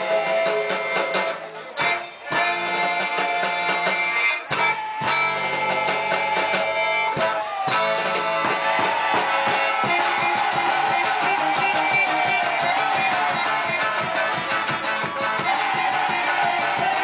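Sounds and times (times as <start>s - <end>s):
band with guitar and drums: 0.0s - 17.0s.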